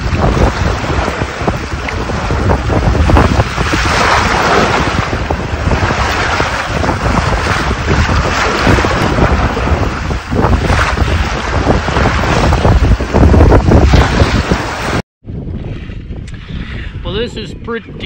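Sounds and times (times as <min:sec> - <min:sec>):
water rushing along hull: 0:00.0 - 0:15.0
wind buffeting microphone: 0:00.0 - 0:18.0.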